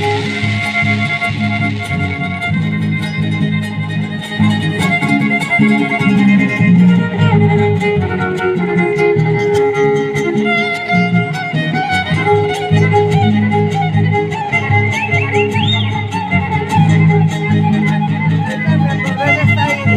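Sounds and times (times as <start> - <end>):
strummed guitars: 0.0 - 19.9
violin melody: 0.0 - 19.9.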